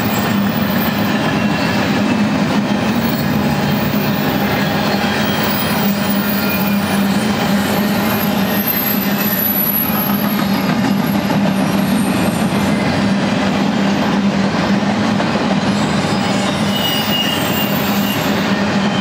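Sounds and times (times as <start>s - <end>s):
faint high wheel squeals: 0.0s - 12.4s, 15.7s - 19.0s
train wheels rumbling on rails: 0.0s - 19.0s.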